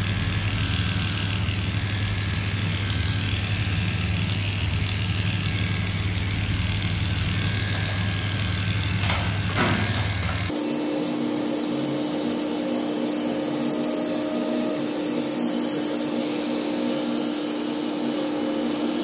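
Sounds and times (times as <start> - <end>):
electric dog clipper humming: 0.0 - 19.0.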